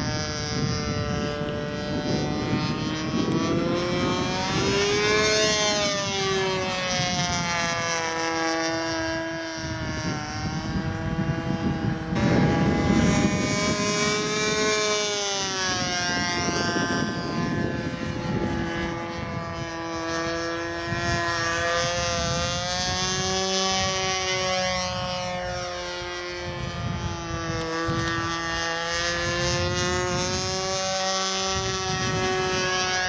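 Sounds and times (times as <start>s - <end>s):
model plane propeller engine: 0.0s - 33.0s
rushing burst: 0.0s - 33.0s.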